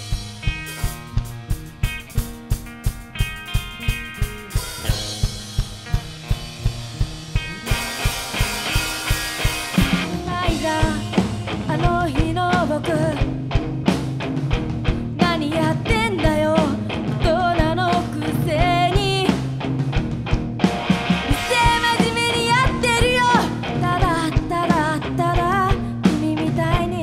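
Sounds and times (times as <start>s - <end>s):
bending lead guitar melody: 0.0s - 27.0s
drum kit steady beat: 0.0s - 27.0s
rock band playing: 0.0s - 27.0s.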